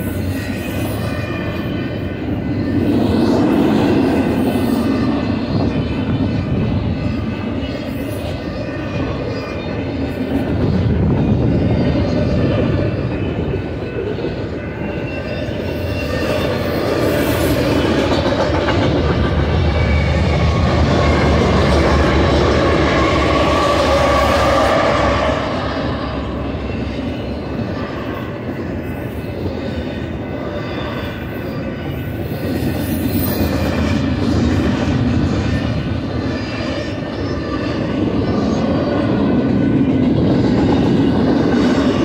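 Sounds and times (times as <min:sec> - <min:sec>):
diesel locomotive engine rumble: 0:00.0 - 0:42.0
train wheels on rails: 0:00.0 - 0:42.0.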